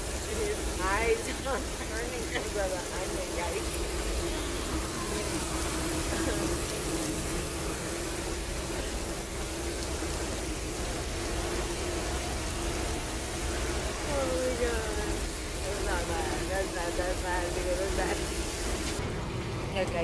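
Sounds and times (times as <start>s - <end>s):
road noise hiss: 0.0s - 20.0s.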